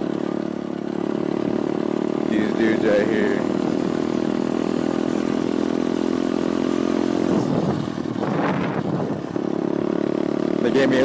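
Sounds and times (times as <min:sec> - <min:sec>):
motorbike motor running: 0:00.0 - 0:11.0.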